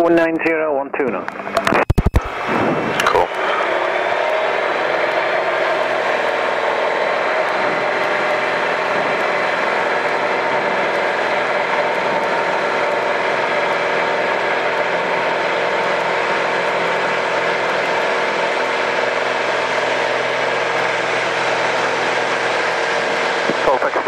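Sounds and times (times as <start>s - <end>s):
airplane engine and propeller: 0.0s - 24.0s.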